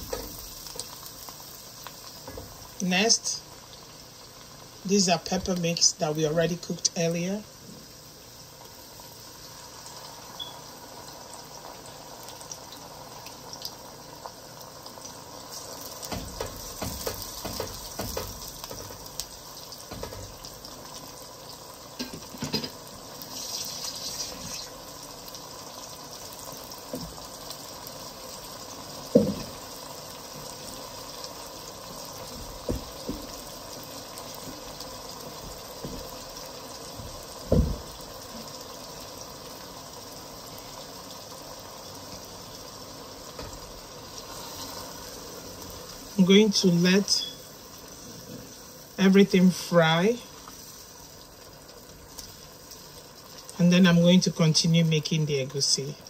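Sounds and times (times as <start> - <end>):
sauce sizzling and bubbling in oil: 0.0 - 56.0.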